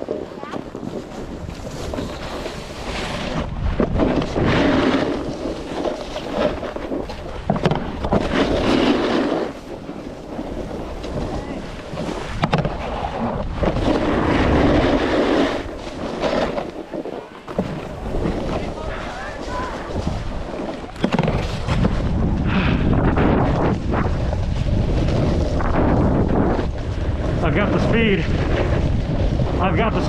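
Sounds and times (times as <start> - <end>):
snowboard scraping over snow: 0.0 - 30.0
wind on microphone: 0.0 - 30.0.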